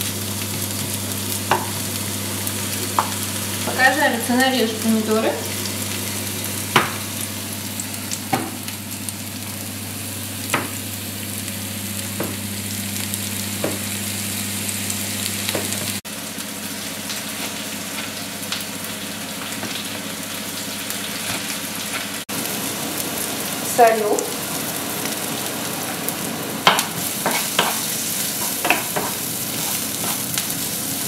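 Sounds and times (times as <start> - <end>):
onion sizzling in oil: 0.0 - 31.0.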